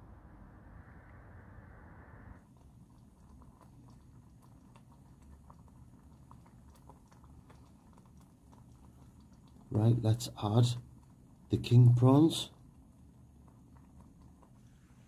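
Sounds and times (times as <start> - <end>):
low steady rumble: 0.0 - 15.0
sauce simmering with small pops: 2.4 - 15.0.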